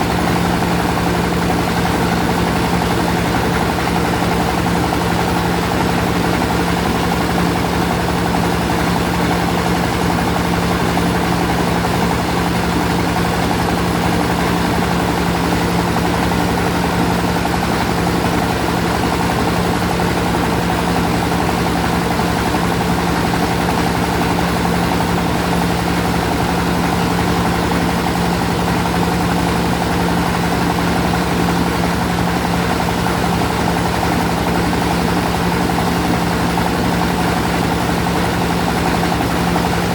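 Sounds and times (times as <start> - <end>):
rice milling machine droning: 0.0 - 39.9.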